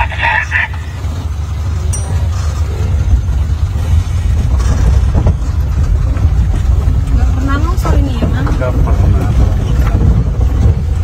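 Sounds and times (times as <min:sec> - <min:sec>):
vehicle rumbling in motion: 0:00.0 - 0:11.0.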